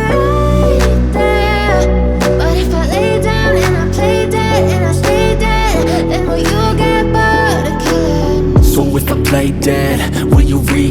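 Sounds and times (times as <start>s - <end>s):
pop song: 0.0s - 10.9s.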